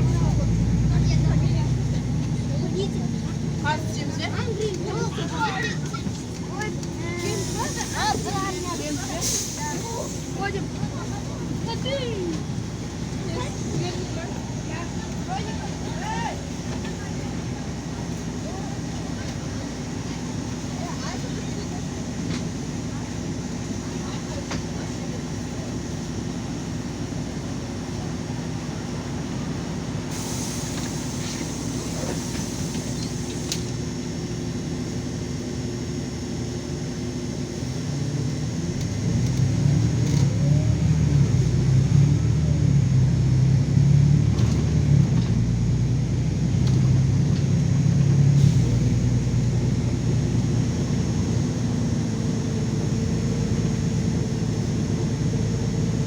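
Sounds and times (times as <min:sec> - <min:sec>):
bus diesel engine accelerating: 0:00.0 - 0:56.0.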